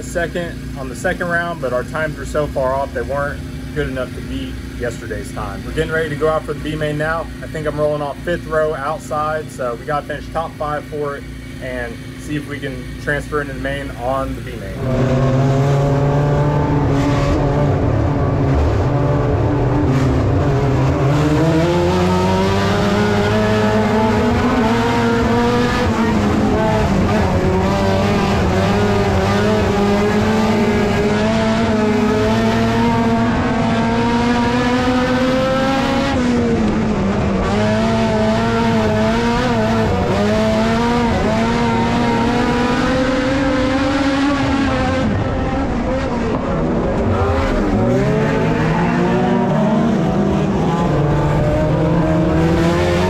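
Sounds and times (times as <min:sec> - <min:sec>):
race car engine from inside: 0:00.0 - 0:53.0.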